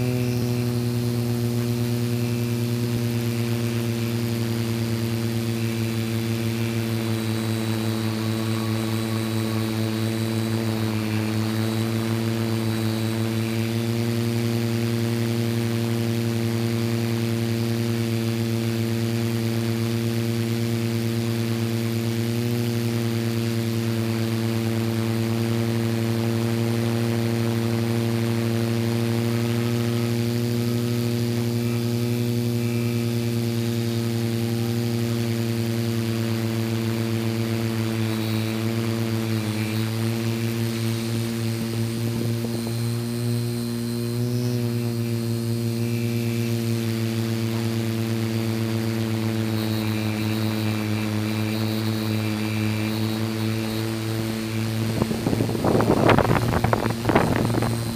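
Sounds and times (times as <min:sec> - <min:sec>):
drone motors buzzing: 0:00.0 - 0:57.9.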